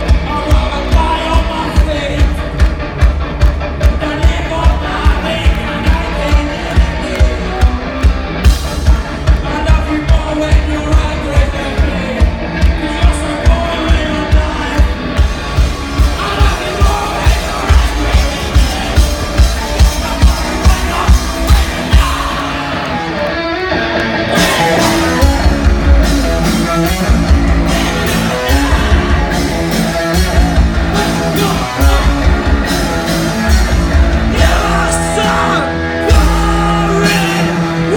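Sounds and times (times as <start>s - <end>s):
drum kit: 0.0s - 23.3s, 24.0s - 37.9s
electric guitar playing loudly: 0.0s - 37.9s.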